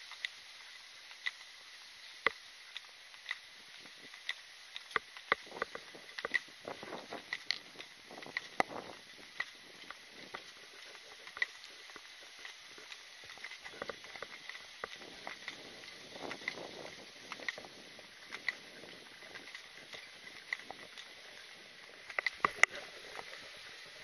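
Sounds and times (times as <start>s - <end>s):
footsteps: 2.8s - 24.0s.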